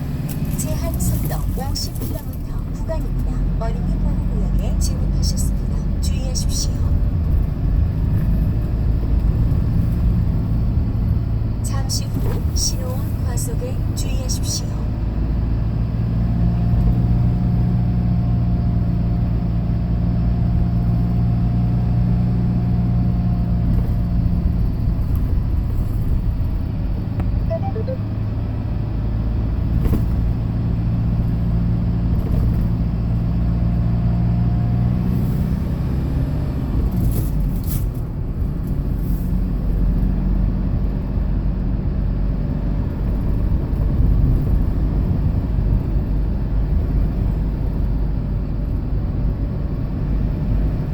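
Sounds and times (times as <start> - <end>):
truck engine and road noise: 0.0 - 50.9.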